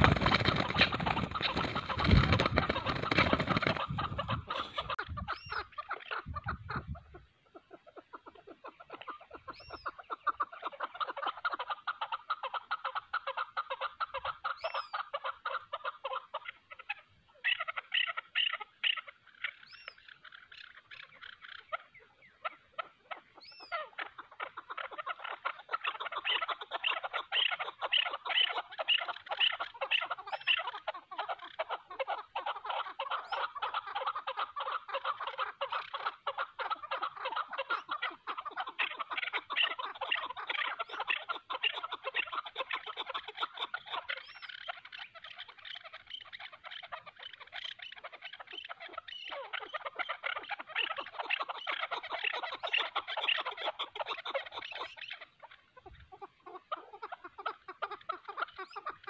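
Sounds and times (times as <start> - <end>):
partridges calling: 0.0 - 59.0.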